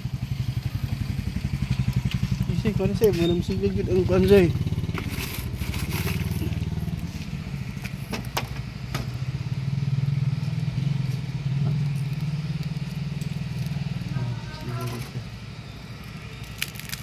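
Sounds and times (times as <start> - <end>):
handheld fan whirring: 0.0 - 17.0.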